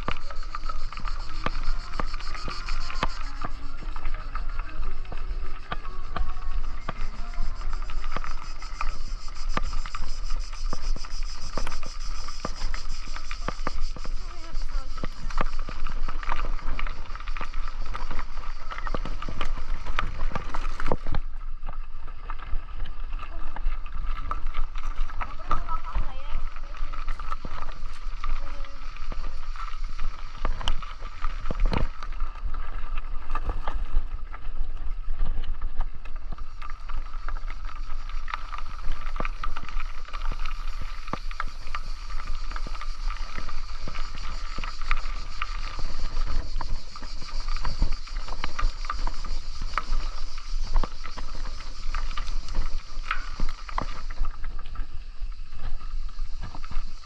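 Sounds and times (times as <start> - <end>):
bicycle tyres rumbling: 0.0 - 57.0.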